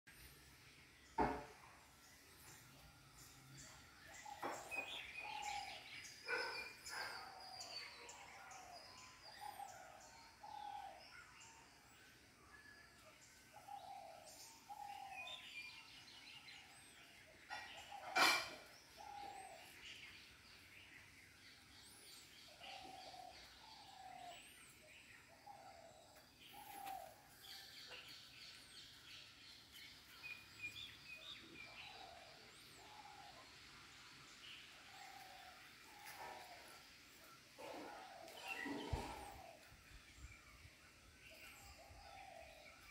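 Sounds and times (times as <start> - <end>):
birds calling: 0.1 - 42.9.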